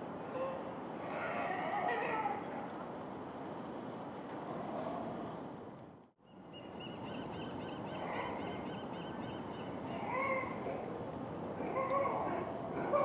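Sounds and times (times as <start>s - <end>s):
harbour background noise: 0.0s - 13.0s.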